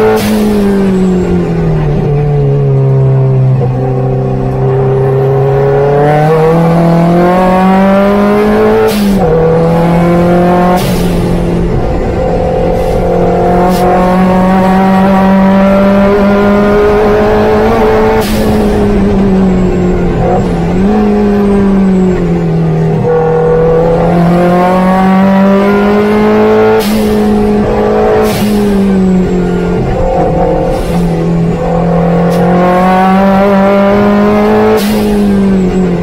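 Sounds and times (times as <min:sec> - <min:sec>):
car engine revving through gears: 0:00.0 - 0:36.0
rush of noise at gear shifts: 0:00.0 - 0:36.0.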